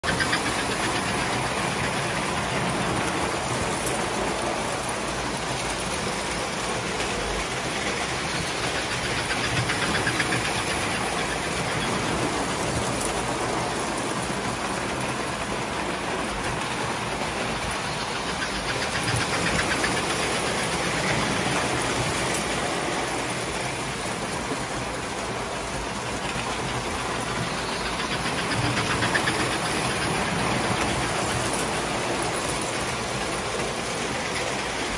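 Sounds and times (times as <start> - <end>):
model trains clattering on track: 0.0 - 34.9.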